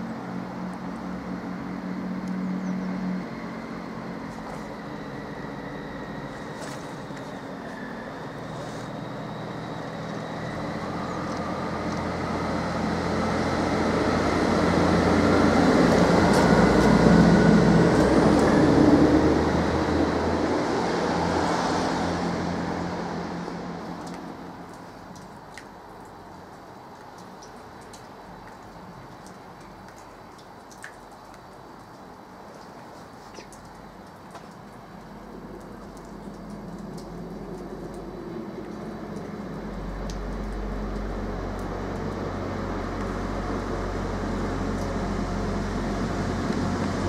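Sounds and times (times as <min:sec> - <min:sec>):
diesel train engine hum: 0:00.0 - 0:25.5, 0:34.8 - 0:47.0.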